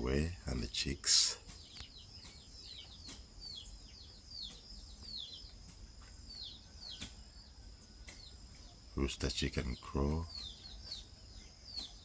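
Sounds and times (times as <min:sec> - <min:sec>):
birds and chicks chirping: 0:00.0 - 0:12.0.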